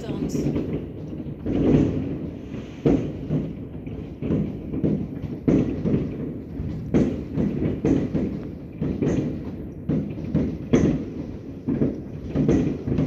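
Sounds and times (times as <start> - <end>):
distant fireworks rumble: 0.0 - 13.0.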